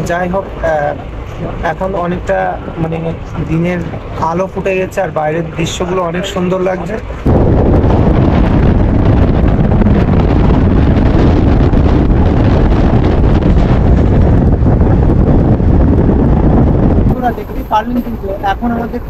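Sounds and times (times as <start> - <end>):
fast train rumbling: 0.0 - 19.0
wind buffeting microphone: 0.0 - 19.0.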